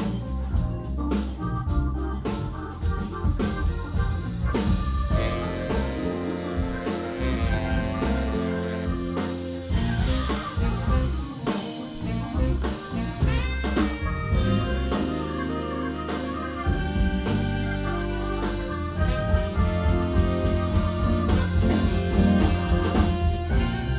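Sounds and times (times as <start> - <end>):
live band playing: 0.0 - 23.9
saxophone: 0.0 - 23.9.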